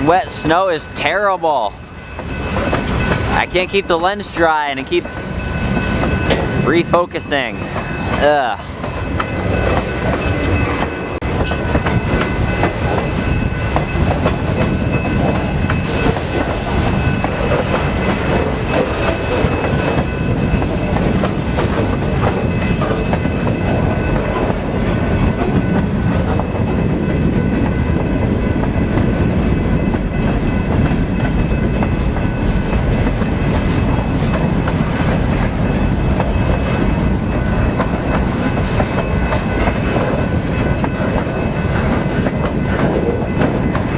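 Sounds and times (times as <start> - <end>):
freight train wheels rumbling: 0.0 - 43.9
wheels clacking over rail joints: 7.7 - 43.9.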